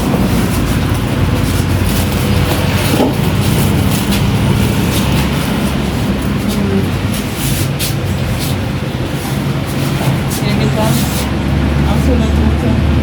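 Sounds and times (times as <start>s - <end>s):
loud background din: 0.0s - 13.0s.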